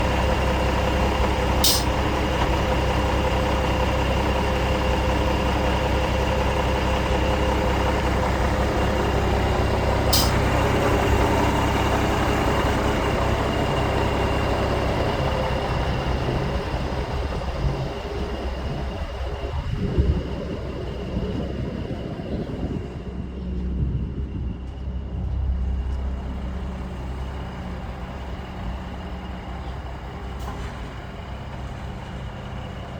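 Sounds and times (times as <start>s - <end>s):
diesel truck engine running: 0.0s - 32.9s.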